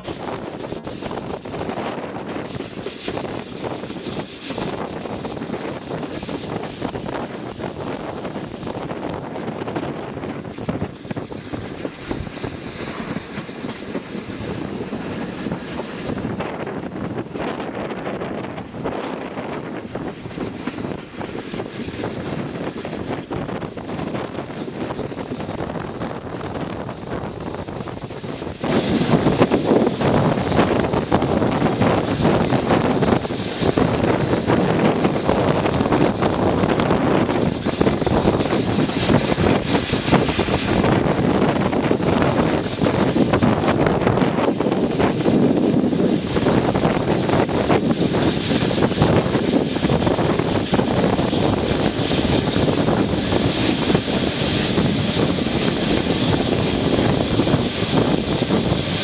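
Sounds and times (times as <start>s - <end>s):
moving train running noise: 0.0s - 59.0s
wind buffeting the microphone: 0.0s - 59.0s.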